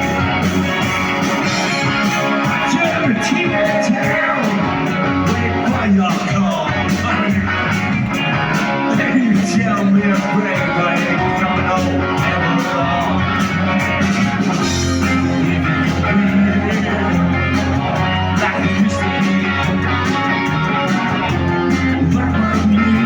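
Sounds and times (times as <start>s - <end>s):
bass line: 0.0s - 23.0s
drum kit beat: 0.0s - 23.0s
guitars: 0.0s - 23.0s.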